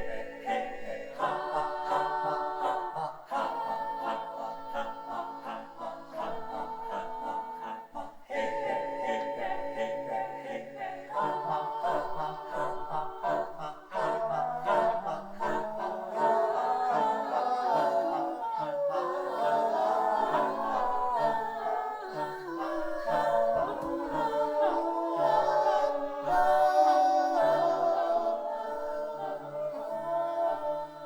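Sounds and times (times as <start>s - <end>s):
choir singing a cappella: 0.0s - 31.0s.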